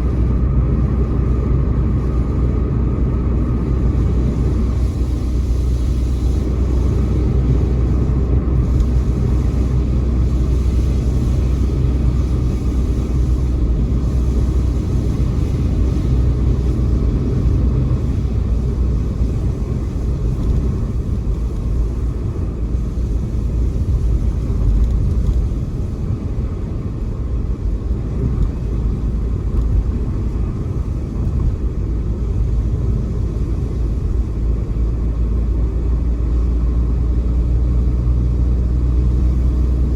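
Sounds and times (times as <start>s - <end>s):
car engine and tyre road noise: 0.0s - 39.9s.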